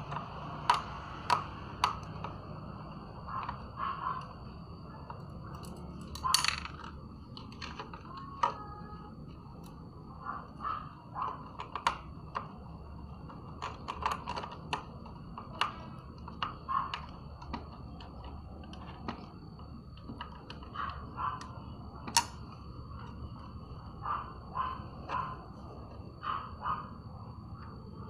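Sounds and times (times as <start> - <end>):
faint high whine: 0.0 - 13.6, 14.3 - 28.0.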